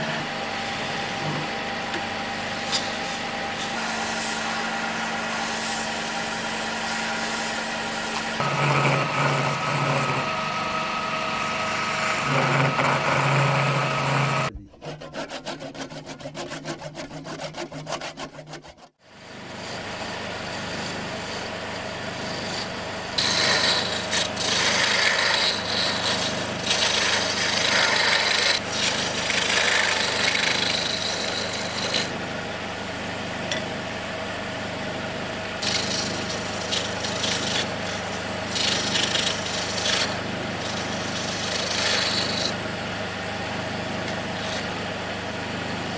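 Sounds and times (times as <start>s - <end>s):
lathe motor hum: 0.0s - 15.8s, 19.1s - 45.9s
turning tool scraping wood: 2.6s - 32.2s, 35.6s - 42.7s, 44.0s - 44.8s.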